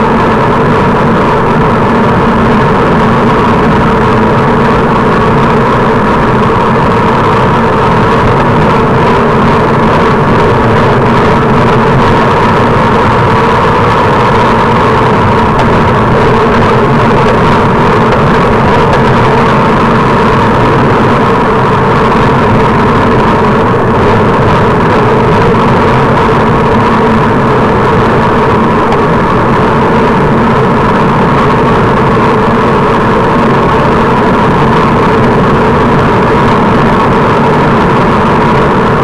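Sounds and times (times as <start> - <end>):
road noise: 0.0 - 39.0
wind rushing on microphone: 0.0 - 39.0.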